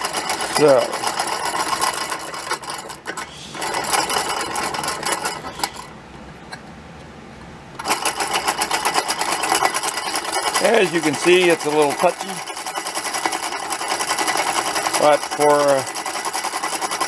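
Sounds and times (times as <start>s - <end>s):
toy solenoid engine clattering: 0.0s - 5.9s, 7.8s - 17.0s.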